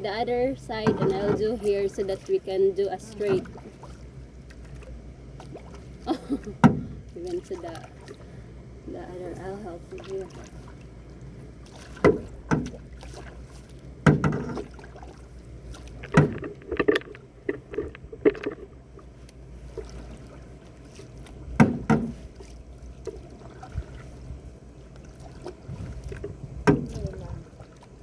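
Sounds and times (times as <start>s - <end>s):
paddles splashing in water: 0.0s - 28.0s.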